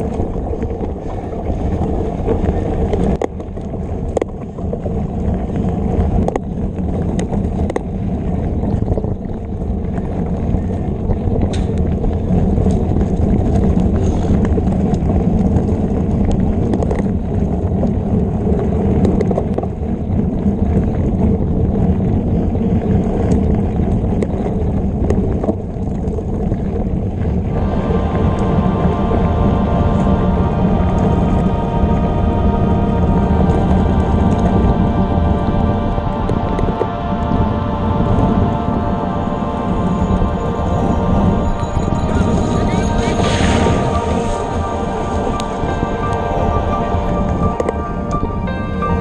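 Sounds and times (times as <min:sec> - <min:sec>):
tyre and wind rumble: 0:00.0 - 0:49.0.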